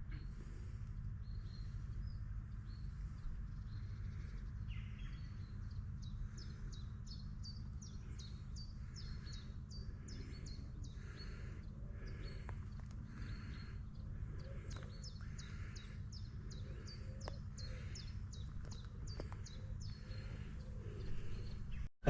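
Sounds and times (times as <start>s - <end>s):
low engine-like hum: 0.0s - 21.9s
birds chirping: 0.0s - 22.0s.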